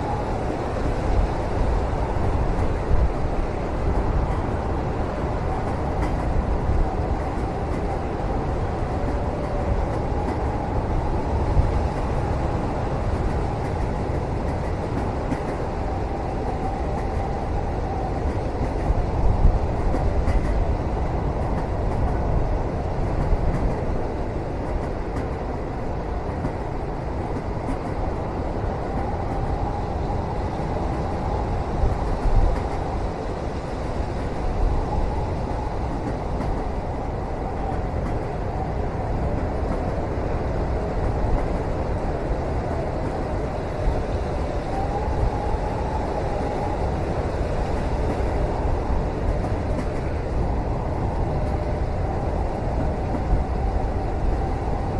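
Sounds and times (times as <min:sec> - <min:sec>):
train rumble: 0:00.0 - 0:54.9.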